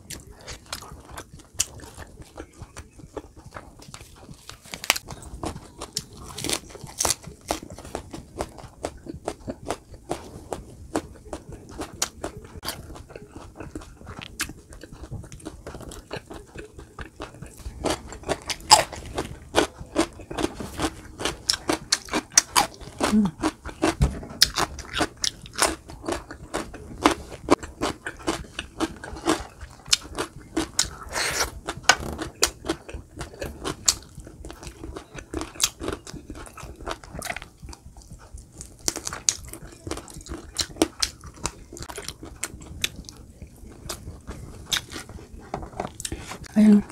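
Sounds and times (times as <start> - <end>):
person chewing crisp chicken skin: 0.0 - 46.9.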